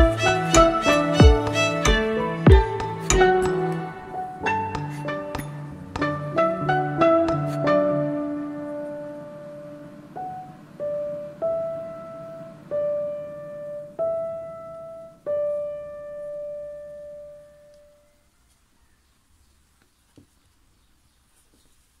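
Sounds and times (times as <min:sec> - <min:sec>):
slow piano notes: 0:00.0 - 0:18.2.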